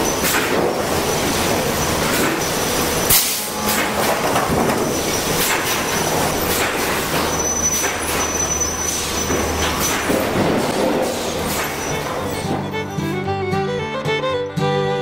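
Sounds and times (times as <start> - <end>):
boards and steel clanking: 0.0 - 13.0
machinery rumble: 0.0 - 15.0.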